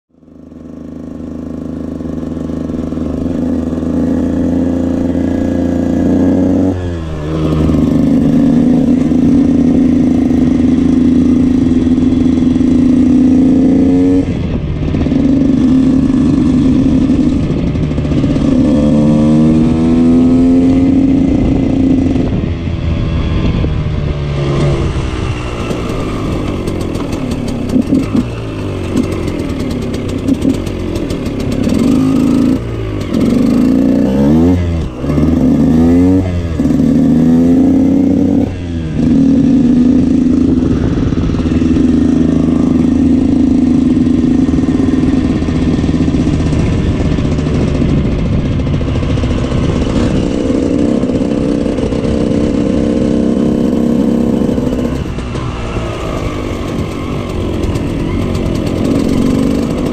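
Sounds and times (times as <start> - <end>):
two-stroke motorcycle engine revving: 0.1 - 59.9.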